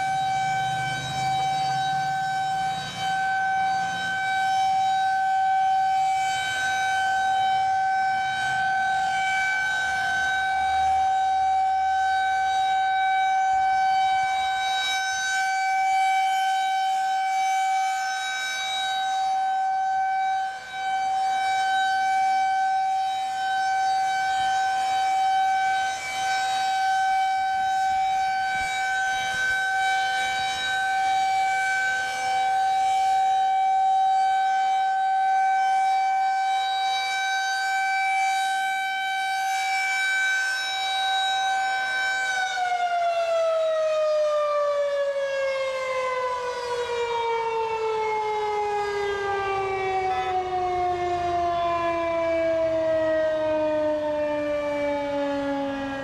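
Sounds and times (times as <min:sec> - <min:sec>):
rotating warning siren: 0:00.0 - 0:56.0.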